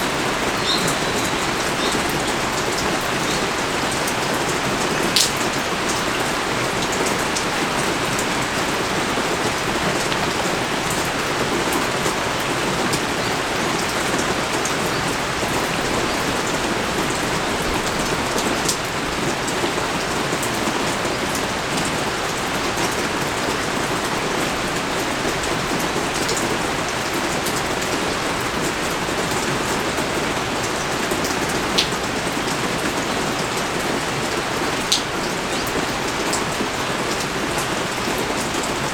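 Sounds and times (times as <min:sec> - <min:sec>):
rain pouring: 0:00.0 - 0:38.9.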